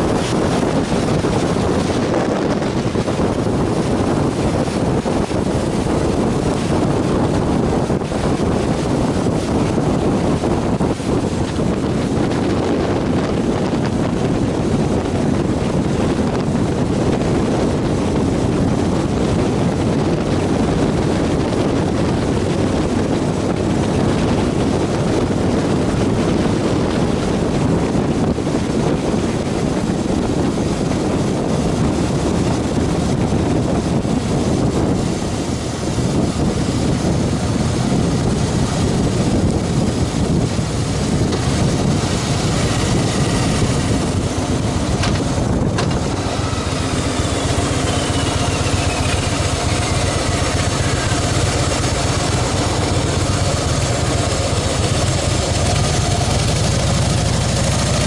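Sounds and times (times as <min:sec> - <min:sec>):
motorcycle engine: 0:00.0 - 0:58.0
road noise: 0:00.0 - 0:58.0
wind buffeting microphone: 0:00.0 - 0:58.0.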